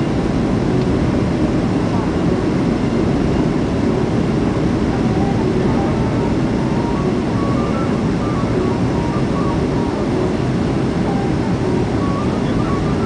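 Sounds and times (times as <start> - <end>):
aircraft cabin engine and air noise: 0.0 - 13.0.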